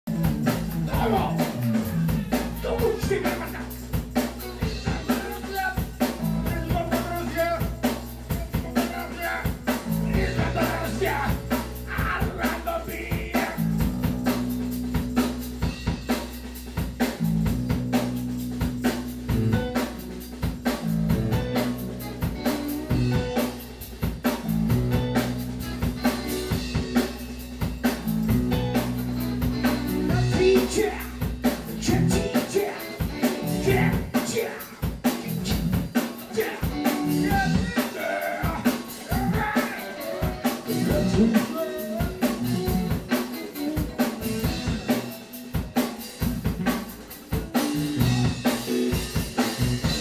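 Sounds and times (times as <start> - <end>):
drum kit beat: 0.0 - 50.0
bass guitar notes: 0.1 - 50.0
live rock band playing: 0.1 - 50.0.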